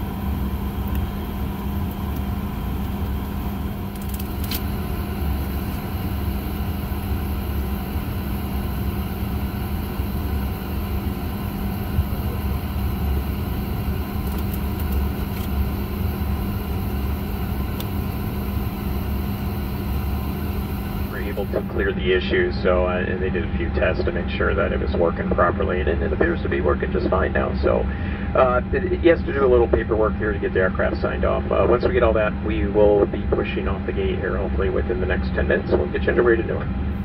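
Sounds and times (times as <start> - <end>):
air-conditioning hum: 0.0 - 37.0
faint high whine: 0.0 - 37.0.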